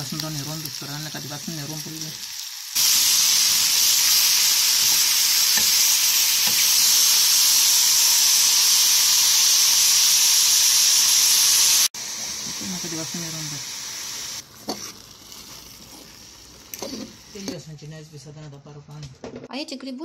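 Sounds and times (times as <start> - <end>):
food sizzling in a pot: 0.0 - 17.6.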